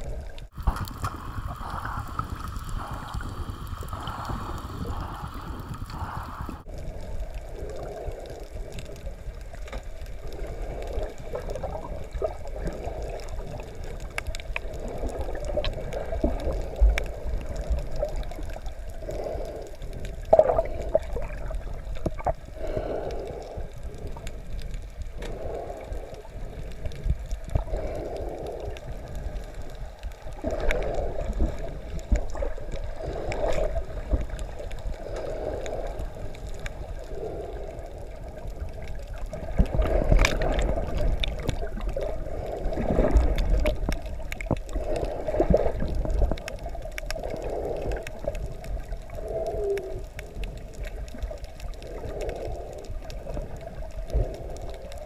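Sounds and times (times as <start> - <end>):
water sloshing and gurgling underwater: 0.0 - 55.0.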